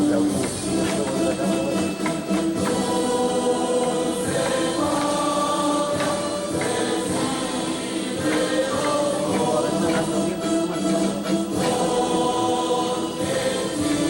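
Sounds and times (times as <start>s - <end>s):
group of voices singing: 0.0s - 14.0s
tambourine-like percussion strikes: 0.0s - 14.0s.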